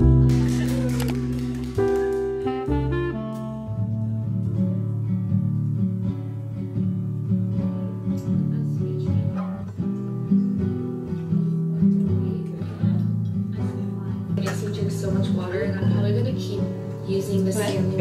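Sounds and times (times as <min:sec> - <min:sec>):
plucked acoustic guitar music: 0:00.0 - 0:18.0.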